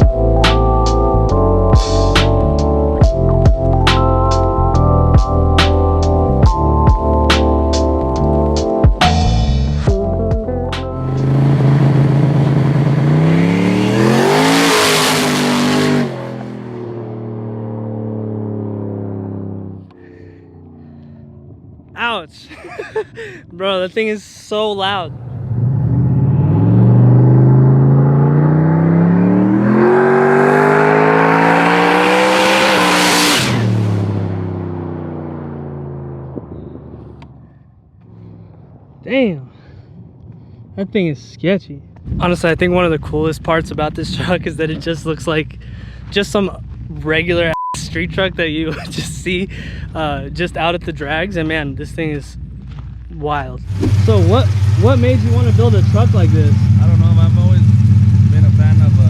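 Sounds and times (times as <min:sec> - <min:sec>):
truck engine accelerating: 0:00.0 - 0:23.3, 0:24.7 - 0:41.1, 0:42.0 - 0:59.0.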